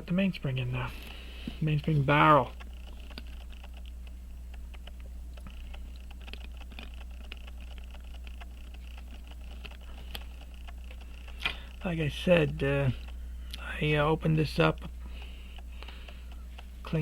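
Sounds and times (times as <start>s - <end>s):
low steady hum: 0.0s - 17.0s
small parts clicking and tapping: 2.1s - 17.0s.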